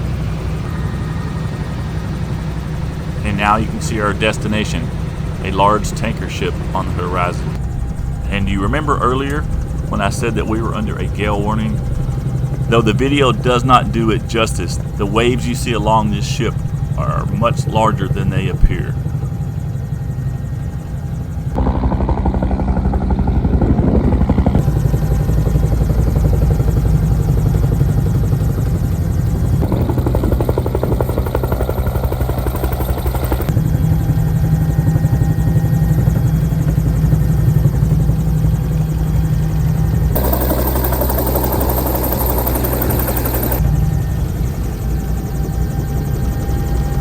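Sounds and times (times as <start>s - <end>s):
helicopter turbine and rotor noise: 0.0s - 47.0s.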